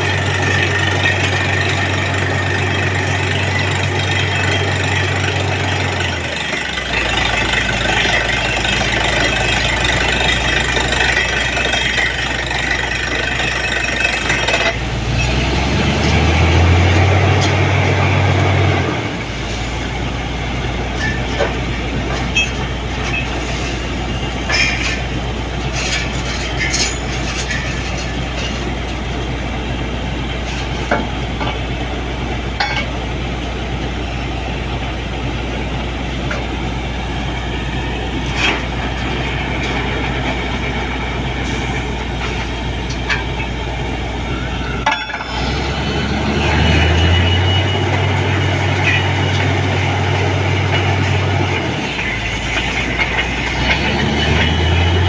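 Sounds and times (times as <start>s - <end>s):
drilling rig engine running: 0.0s - 55.0s.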